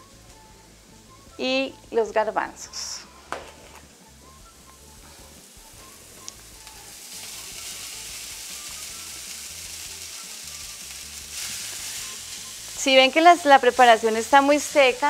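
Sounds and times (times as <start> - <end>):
food sizzling in frying pan: 0.1 - 15.0.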